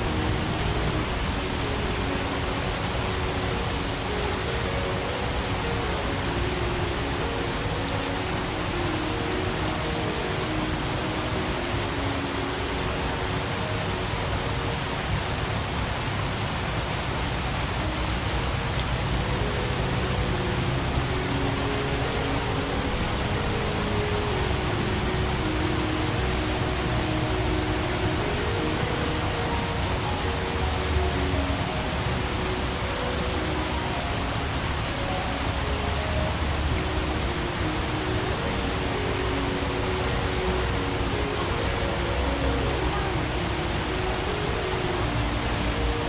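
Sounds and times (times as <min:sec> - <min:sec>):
soft music with low held notes: 0:00.0 - 0:46.0
stream rushing: 0:00.0 - 0:46.0.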